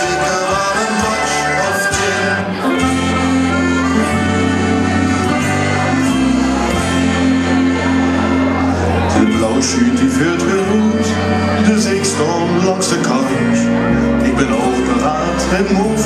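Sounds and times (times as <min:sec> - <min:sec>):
pop music over loudspeakers: 0:00.0 - 0:16.0.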